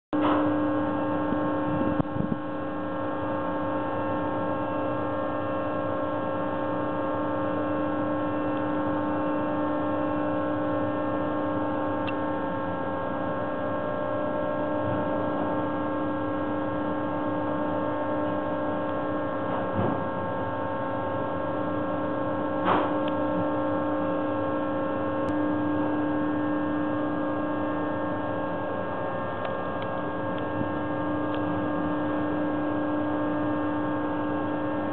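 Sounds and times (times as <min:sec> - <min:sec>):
machinery hum: 0:00.2 - 0:34.9.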